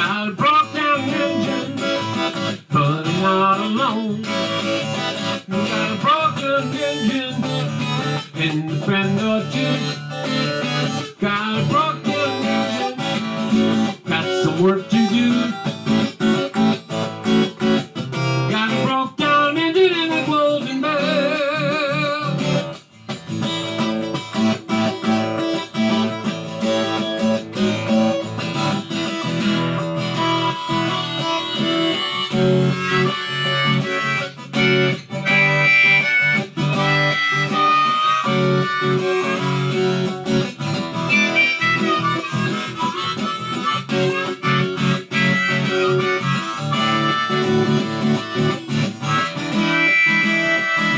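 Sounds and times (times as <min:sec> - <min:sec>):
harmonica playing: 0:00.0 - 0:50.9
strummed acoustic guitar: 0:00.0 - 0:50.9.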